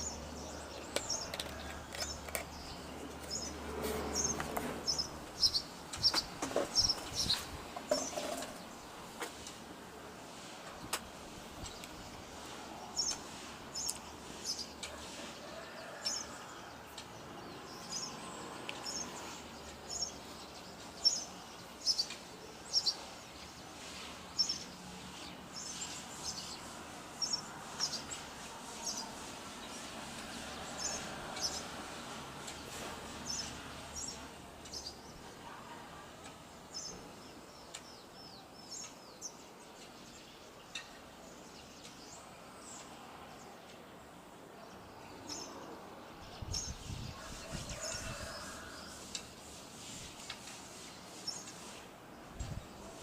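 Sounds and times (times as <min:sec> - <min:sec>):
outdoor background hiss: 0:00.0 - 0:53.0
small birds chirping: 0:00.0 - 0:53.0.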